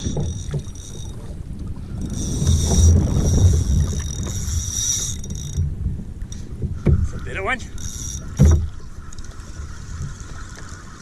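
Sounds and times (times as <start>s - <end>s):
water moving around hull: 0.0s - 11.0s
wind buffeting microphone: 0.0s - 11.0s.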